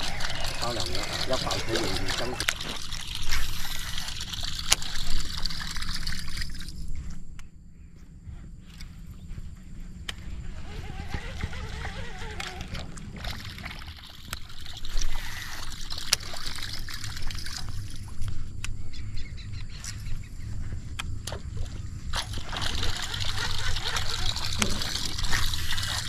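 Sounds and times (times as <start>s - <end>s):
water splashing and sloshing: 0.0s - 7.3s, 10.6s - 18.7s, 19.7s - 26.0s.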